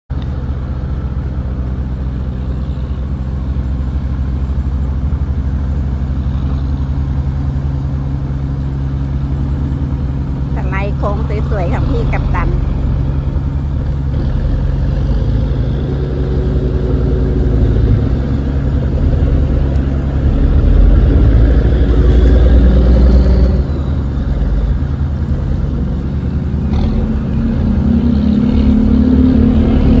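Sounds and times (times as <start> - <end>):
boat diesel engine rumble: 0.1 - 30.0.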